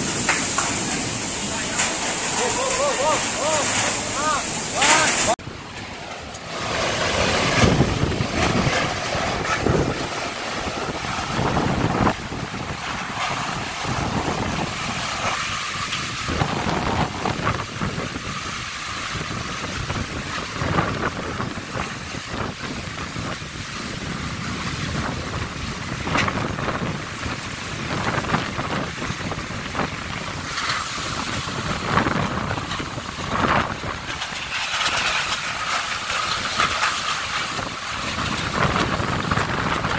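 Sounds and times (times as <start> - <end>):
strong gusting wind: 0.0 - 39.9
wind rumbling on microphone: 0.0 - 39.9.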